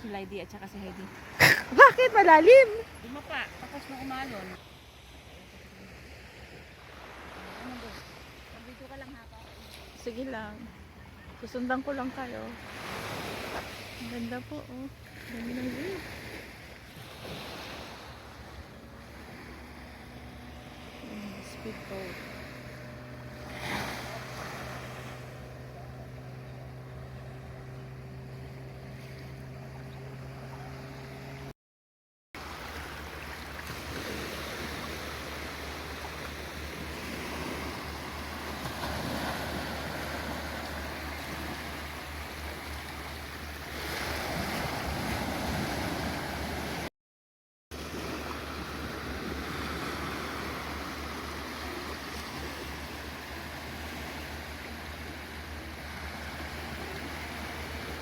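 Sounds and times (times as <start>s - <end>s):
sea waves washing on a beach: 0.0s - 31.5s, 32.4s - 46.9s, 47.7s - 58.0s
low motor hum: 0.0s - 31.6s, 32.4s - 46.9s, 47.8s - 58.0s.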